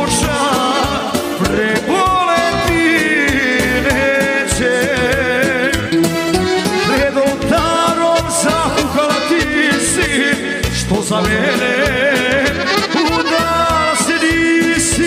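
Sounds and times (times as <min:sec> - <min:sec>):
accordion melody: 0:00.0 - 0:15.0.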